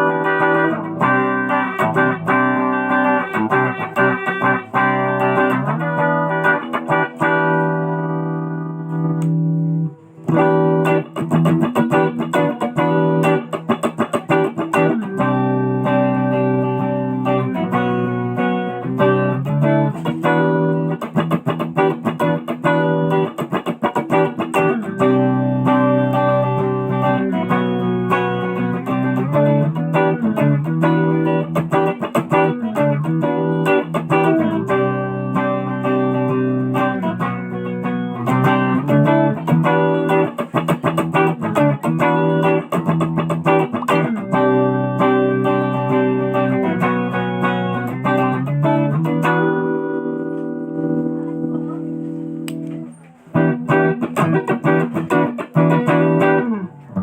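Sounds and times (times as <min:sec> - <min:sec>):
electric guitar through amplifier: 0:00.0 - 0:57.0.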